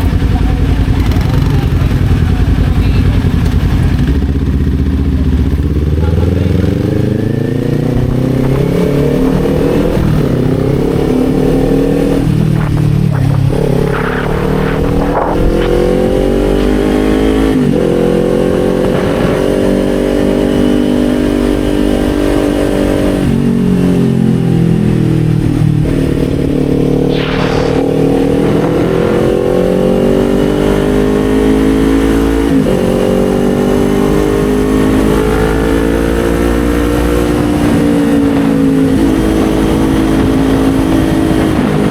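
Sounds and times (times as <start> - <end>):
motorcycle engine under way: 0.0 - 41.9.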